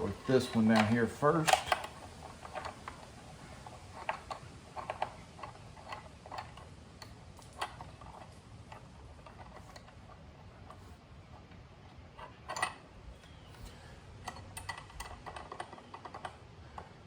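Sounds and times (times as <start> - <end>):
hands clicking and tapping parts: 0.0 - 11.6, 12.2 - 17.0.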